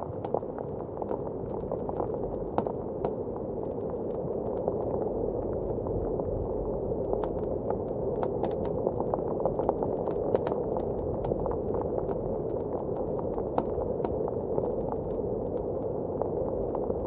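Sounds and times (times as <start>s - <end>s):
blizzard wind: 0.0s - 17.0s.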